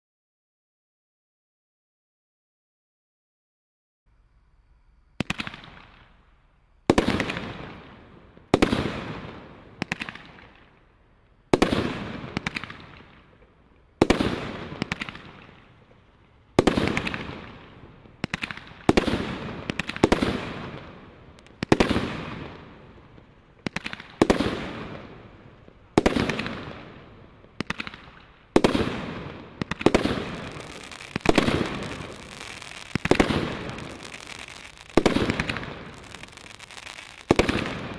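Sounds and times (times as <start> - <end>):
firework bangs: 5.2 - 10.9, 11.5 - 37.9.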